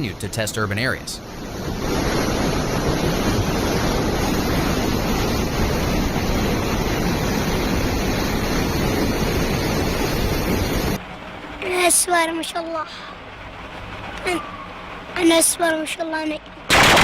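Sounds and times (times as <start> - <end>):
torrential rain: 0.0 - 17.0.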